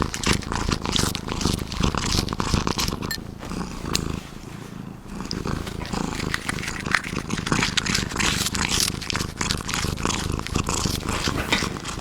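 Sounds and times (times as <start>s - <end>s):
wet chewing and smacking: 0.0s - 3.2s, 5.2s - 12.0s
cat purring: 0.0s - 12.0s.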